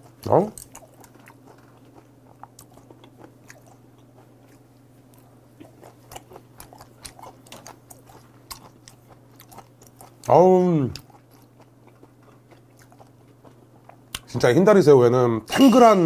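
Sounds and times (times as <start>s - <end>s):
person chewing with mouth clicks: 0.0s - 14.3s
low steady hum: 0.0s - 16.0s.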